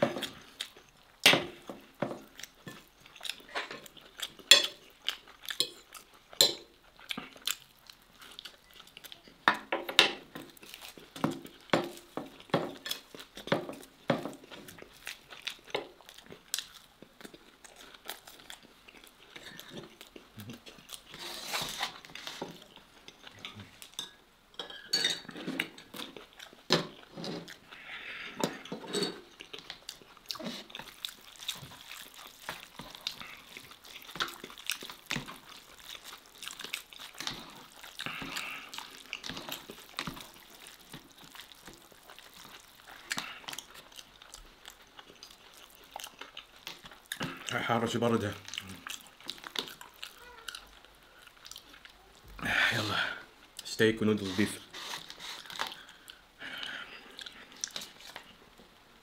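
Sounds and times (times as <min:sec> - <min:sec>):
chewing: 0:00.0 - 0:09.4, 0:10.2 - 0:24.0, 0:25.3 - 0:52.4, 0:54.7 - 0:58.7.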